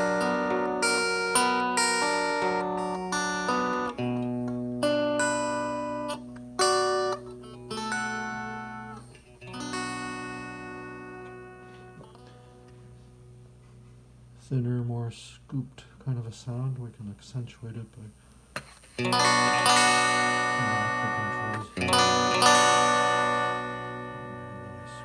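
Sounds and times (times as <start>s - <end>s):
electric guitar chords and notes: 0.0s - 14.4s, 18.6s - 25.0s.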